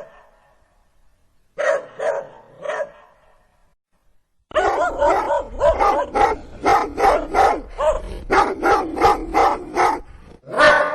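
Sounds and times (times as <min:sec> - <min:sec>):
dog barking: 0:00.0 - 0:00.6, 0:01.6 - 0:03.4, 0:04.5 - 0:10.9.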